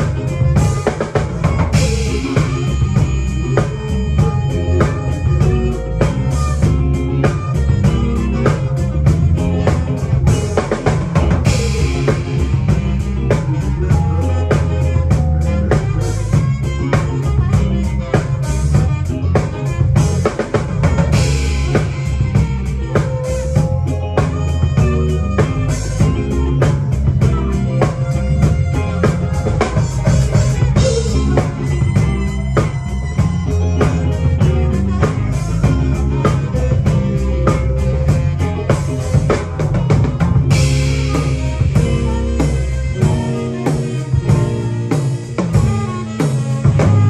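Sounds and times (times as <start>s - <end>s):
drum kit groove: 0.0s - 47.0s
live band playing: 0.0s - 47.0s.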